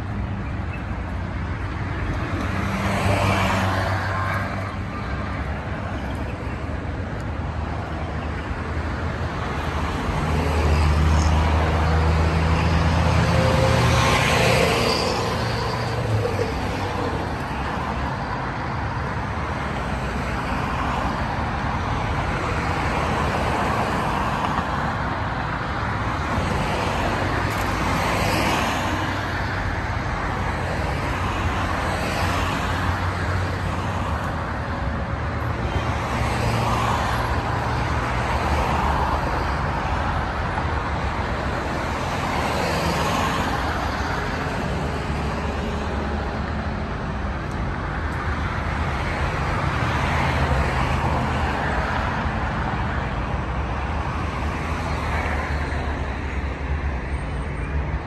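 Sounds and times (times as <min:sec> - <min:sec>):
passing cars: 0:00.0 - 0:58.0.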